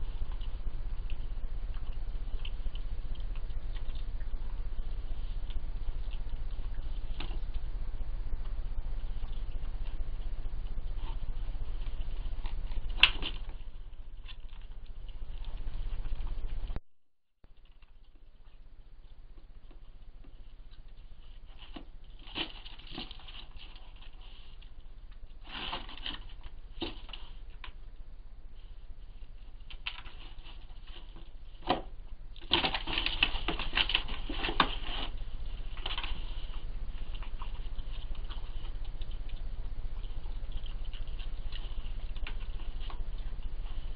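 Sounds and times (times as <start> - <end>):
animals crunching food: 0.0 - 16.8, 17.4 - 43.9
steady low hum: 0.0 - 43.9.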